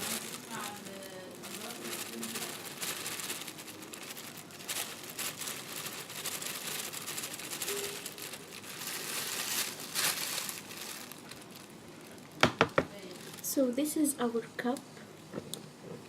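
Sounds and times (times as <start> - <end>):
paper bag crinkling: 0.0 - 14.0.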